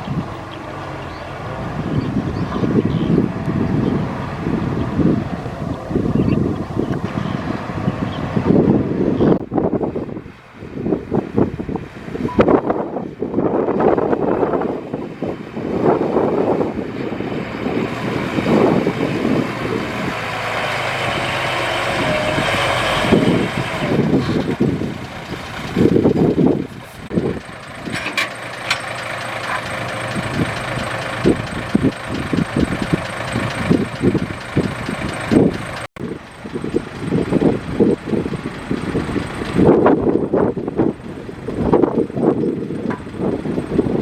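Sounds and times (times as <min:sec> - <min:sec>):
wind buffeting microphone: 0:00.0 - 0:28.0, 0:29.7 - 0:44.0
heavy diesel machinery running: 0:00.0 - 0:44.0.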